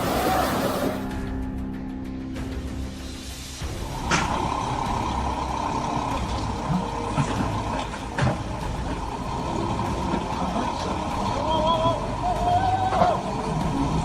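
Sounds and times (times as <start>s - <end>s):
heavy machinery engine rumbling: 0.0s - 1.1s, 3.6s - 14.0s.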